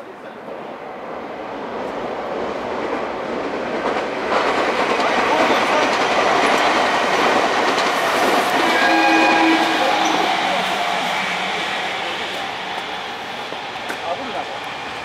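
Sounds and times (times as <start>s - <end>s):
train wheels rumbling on rails: 0.3s - 15.0s.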